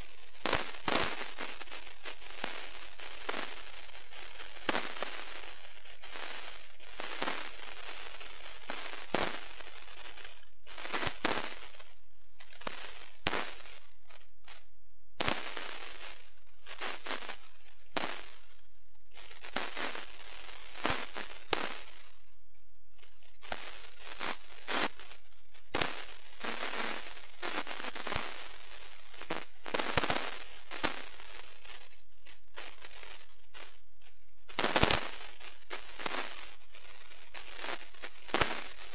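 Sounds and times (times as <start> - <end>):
fireworks bangs and crackling: 0.0 - 22.3, 22.9 - 38.9.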